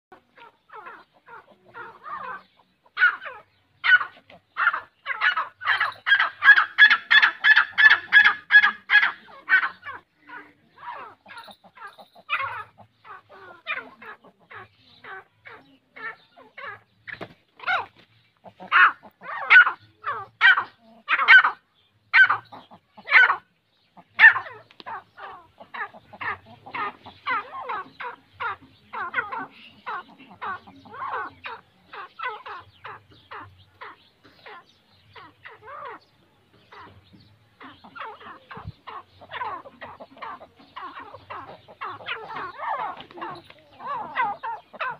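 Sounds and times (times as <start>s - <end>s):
francolins calling: 0.1s - 44.9s.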